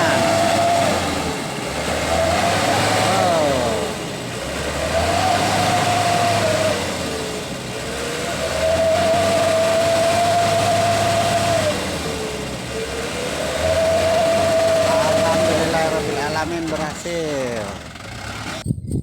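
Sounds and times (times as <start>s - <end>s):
truck engine running under load: 0.0s - 18.8s.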